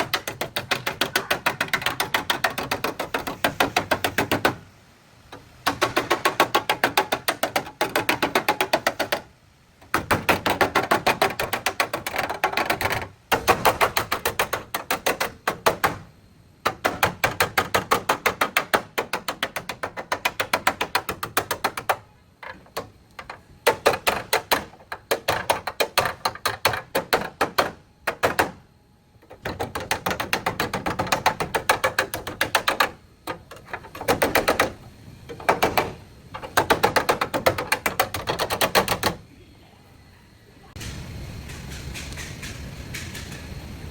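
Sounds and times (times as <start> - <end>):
hammer tapping on sheet metal: 0.0 - 4.6, 5.6 - 9.3, 9.9 - 28.6, 29.3 - 39.2.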